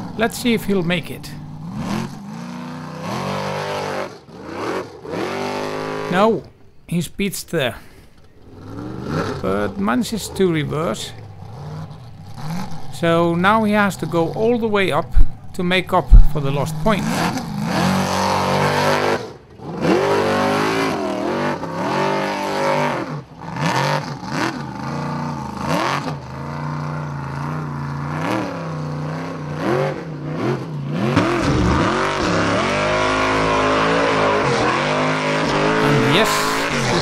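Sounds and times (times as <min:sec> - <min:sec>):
buggy engine revving hard: 0:00.0 - 0:06.5, 0:08.2 - 0:37.0.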